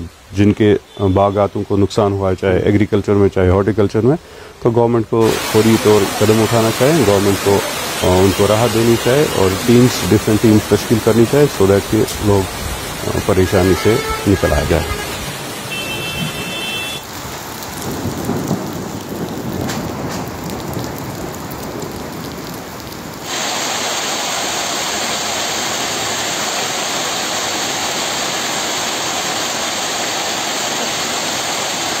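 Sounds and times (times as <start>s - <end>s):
hail and heavy rain: 5.2s - 32.0s.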